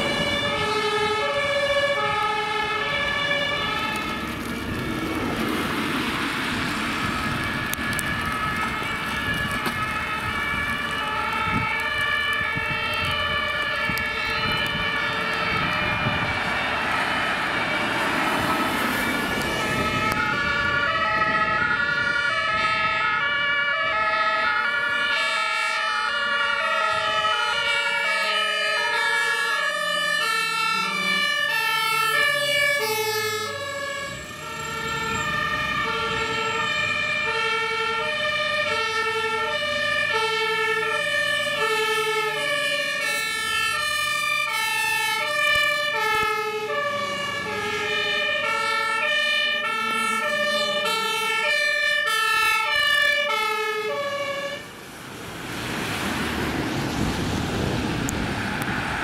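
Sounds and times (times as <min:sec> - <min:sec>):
two-tone emergency sirens: 0:00.0 - 0:59.0.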